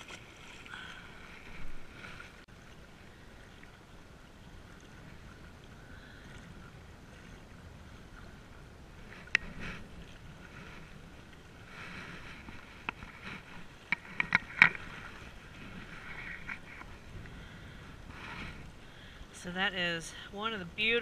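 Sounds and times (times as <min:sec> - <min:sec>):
waves lapping on rocky shore: 0:00.0 - 0:21.0.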